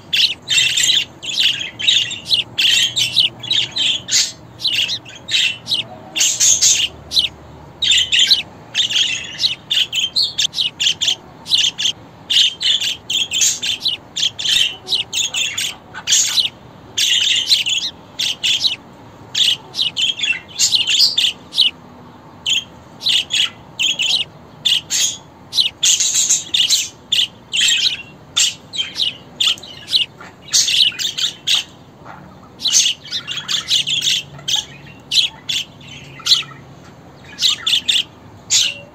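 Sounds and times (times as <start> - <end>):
budgerigar chirping: 0.0 - 21.8, 22.4 - 38.9.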